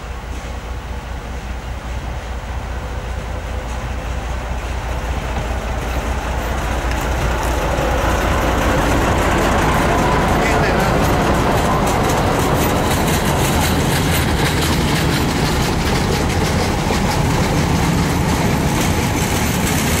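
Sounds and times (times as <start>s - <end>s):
diesel locomotive engine running: 0.0s - 20.0s
train wheels clicking over track: 0.0s - 20.0s.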